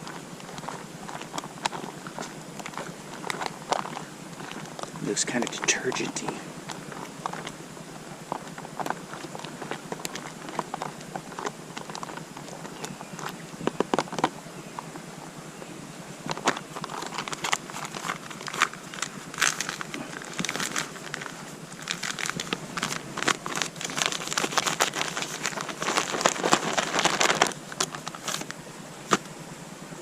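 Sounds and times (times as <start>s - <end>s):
camping gear rustling and crackling: 0.0s - 29.4s.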